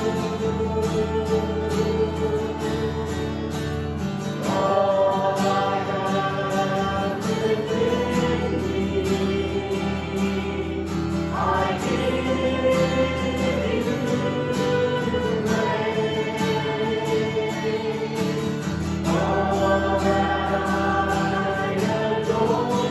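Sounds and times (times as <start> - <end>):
congregation singing: 0.0 - 22.9
guitar accompaniment: 0.0 - 22.9.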